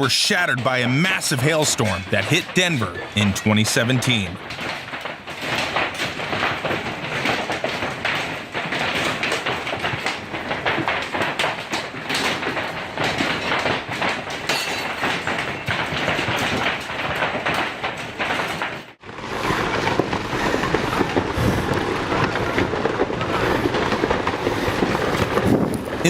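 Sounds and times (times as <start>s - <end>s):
hail clattering on hard surfaces: 0.0s - 26.0s.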